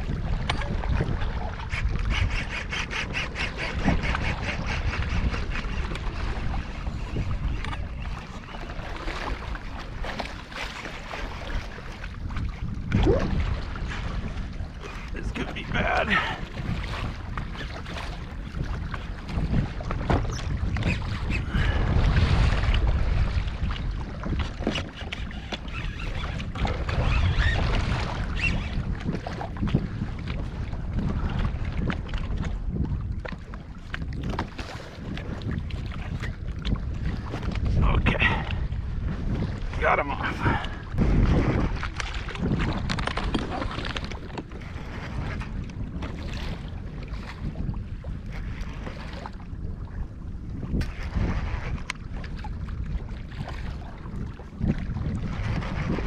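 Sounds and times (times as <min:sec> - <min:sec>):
water noise: 0:00.0 - 0:56.0
wind: 0:00.0 - 0:56.0.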